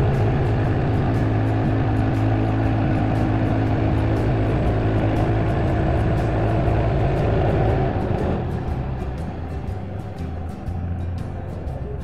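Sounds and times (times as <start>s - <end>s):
sawmill engine droning: 0.0s - 12.0s.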